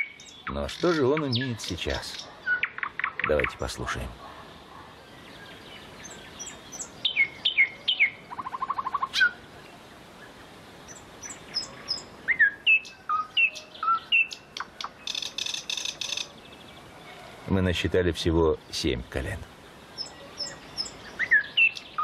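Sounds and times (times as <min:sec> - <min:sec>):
nightingale singing: 0:00.0 - 0:03.8, 0:04.9 - 0:17.4, 0:18.6 - 0:22.0.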